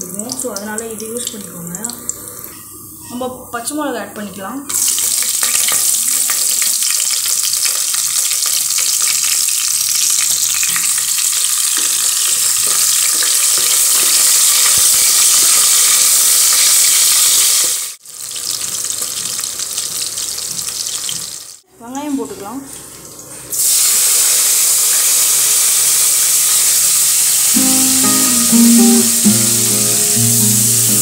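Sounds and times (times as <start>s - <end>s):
chillies sizzling in hot oil: 0.0s - 3.6s, 4.7s - 21.6s, 22.2s - 31.0s.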